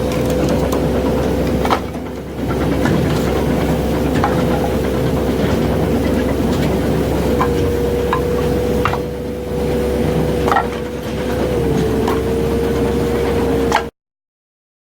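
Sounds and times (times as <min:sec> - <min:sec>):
constant whine: 0:00.0 - 0:13.9
diesel engine drone: 0:00.0 - 0:13.9.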